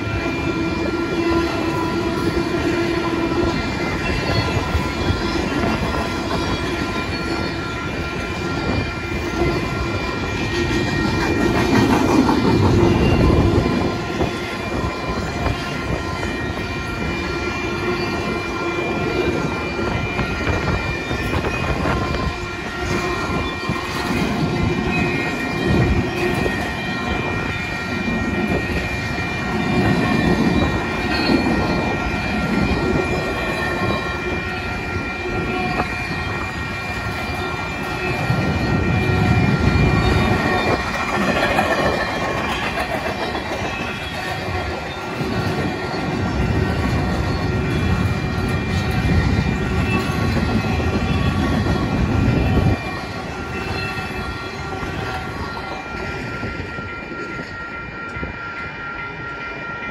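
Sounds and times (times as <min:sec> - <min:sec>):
crossing warning bell ringing: 0:00.0 - 0:59.9
train wheels rumbling on rails: 0:00.0 - 0:59.9.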